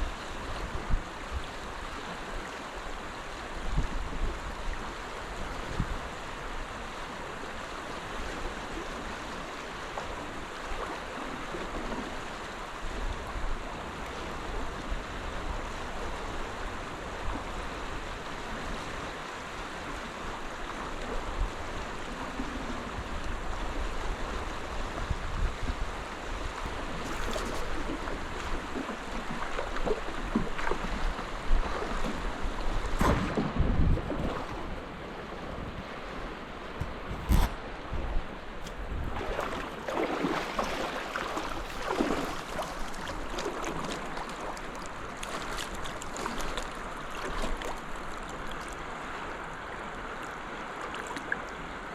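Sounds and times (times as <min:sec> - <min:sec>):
river water rushing: 0:00.0 - 0:51.9.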